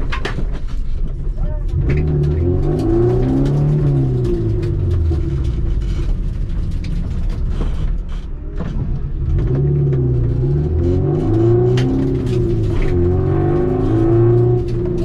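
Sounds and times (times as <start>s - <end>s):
sharp clicks and rattles: 0.0s - 15.0s
car engine revving: 1.4s - 15.0s.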